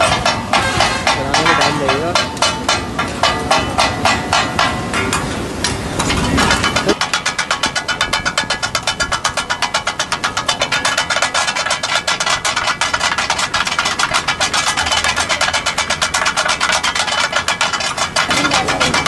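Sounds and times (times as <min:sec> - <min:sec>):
metal blades striking griddle: 0:00.0 - 0:19.0.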